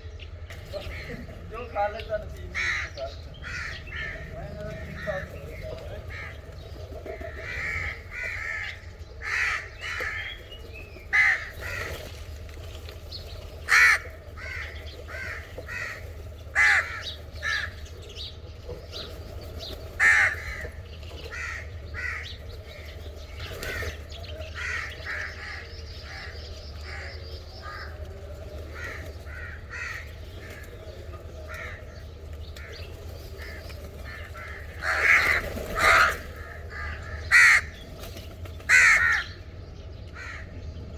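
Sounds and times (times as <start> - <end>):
crows cawing: 0.5 - 12.1, 13.6 - 17.9, 19.9 - 37.8, 38.7 - 39.4, 40.2 - 40.5.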